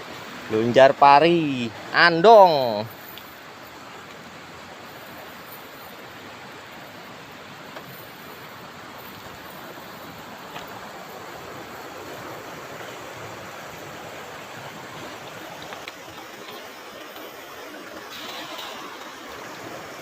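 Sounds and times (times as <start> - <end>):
flowing river water: 0.0 - 20.0.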